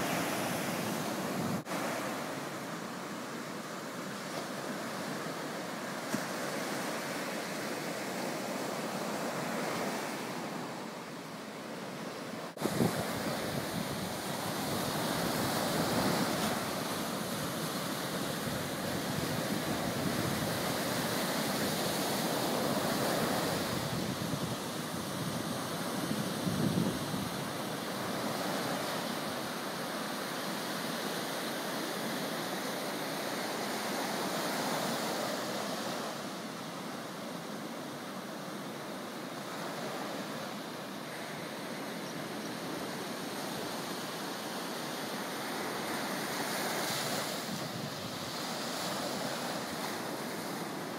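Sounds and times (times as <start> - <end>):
ocean surf washing up sand: 0.0 - 50.9.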